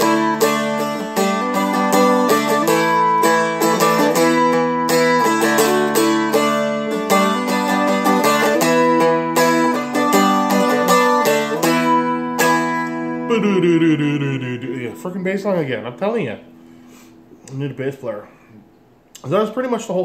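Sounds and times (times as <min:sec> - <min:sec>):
strummed dulcimer chords: 0:00.0 - 0:16.8.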